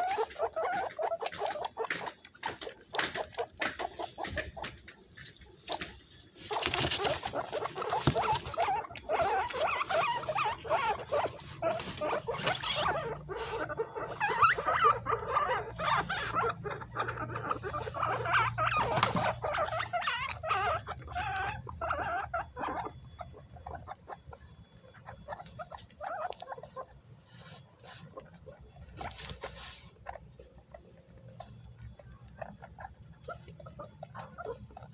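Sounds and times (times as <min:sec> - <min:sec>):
guinea pigs squeaking: 0:00.0 - 0:34.9.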